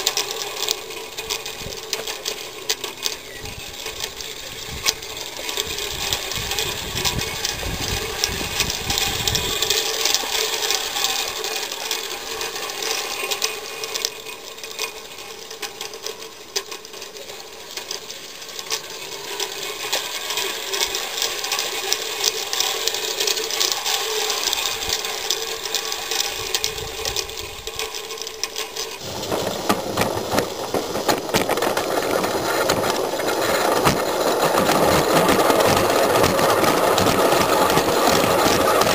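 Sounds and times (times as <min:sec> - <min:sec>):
toy steam locomotive running: 0:00.0 - 0:38.9.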